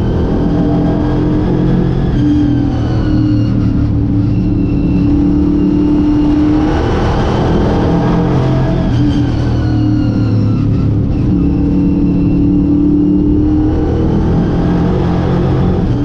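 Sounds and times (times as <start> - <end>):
race car engine running hard: 0.0 - 16.0.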